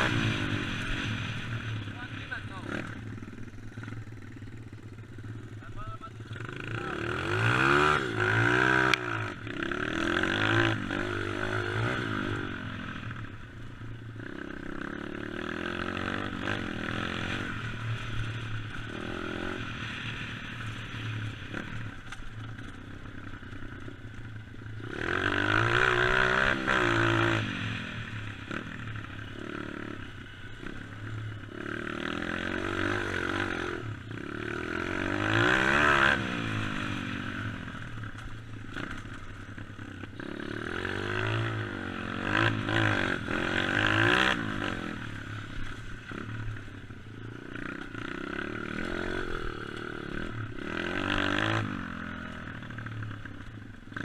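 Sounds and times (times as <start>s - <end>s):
dirt bike engine revving: 0.0s - 23.4s, 24.5s - 54.0s.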